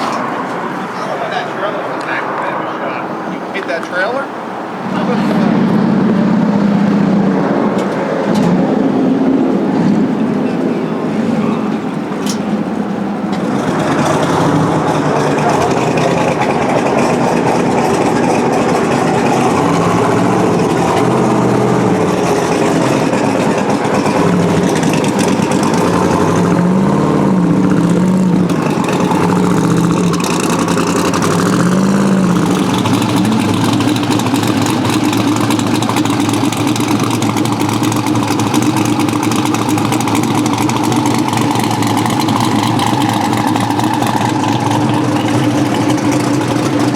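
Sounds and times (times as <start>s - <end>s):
car engine running: 0.0s - 46.9s
road noise: 0.0s - 46.9s.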